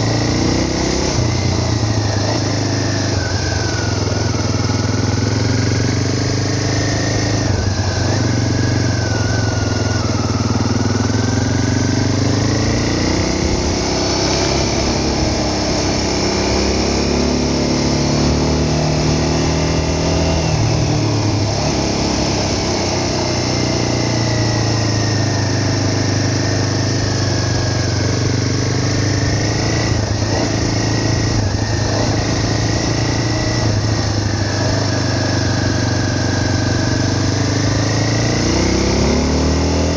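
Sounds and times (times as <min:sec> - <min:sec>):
constant rushing noise: 0:00.0 - 0:39.0
vehicle engine running: 0:00.0 - 0:39.9.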